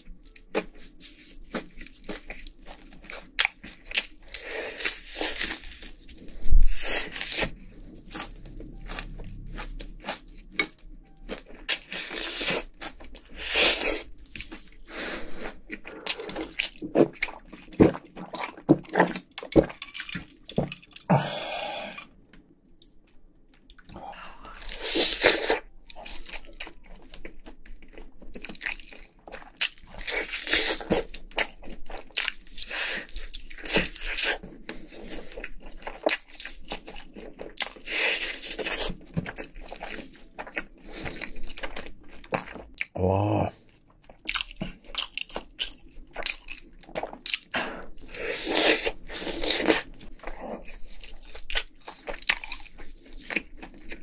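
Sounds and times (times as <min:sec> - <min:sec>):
crunchy bites and chewing: 0:00.3 - 0:20.4, 0:23.6 - 0:54.0.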